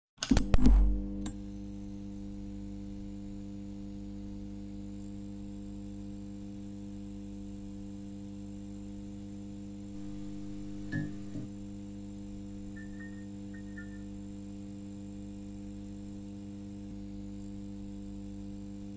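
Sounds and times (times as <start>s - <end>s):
fluorescent light mains hum: 0.6s - 18.9s.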